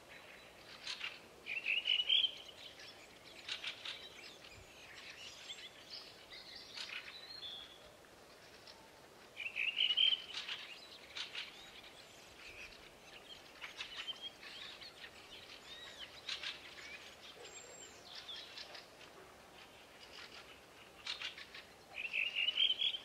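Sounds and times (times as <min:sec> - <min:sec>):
wild birds chirping: 0:00.0 - 0:23.0.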